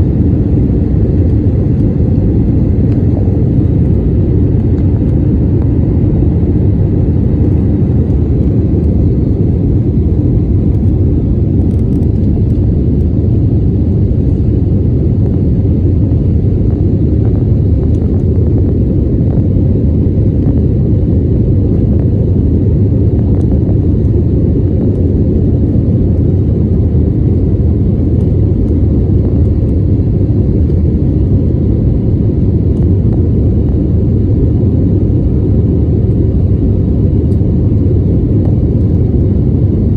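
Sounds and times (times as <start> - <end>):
jet engine rumble inside cabin: 0.0 - 39.9.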